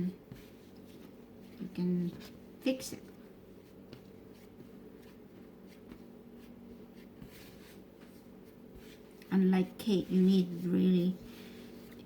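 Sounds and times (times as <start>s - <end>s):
hands kneading bread dough: 0.0s - 12.0s
low steady hum: 0.0s - 12.0s.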